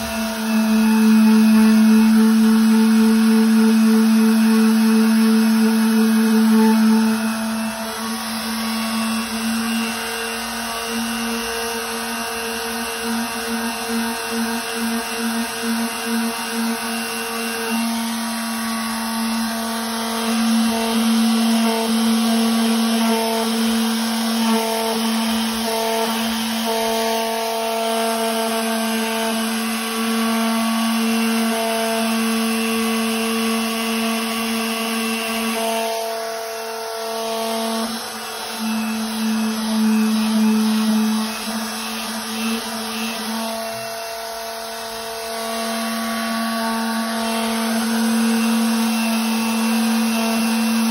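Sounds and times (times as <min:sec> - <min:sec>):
electric sander running: 0:00.0 - 0:50.9.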